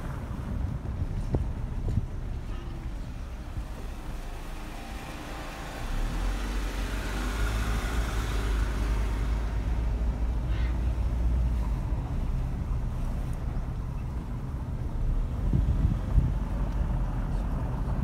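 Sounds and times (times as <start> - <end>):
car engine: 0.0 - 18.0
low rumble: 0.0 - 18.0
road noise: 0.0 - 18.0.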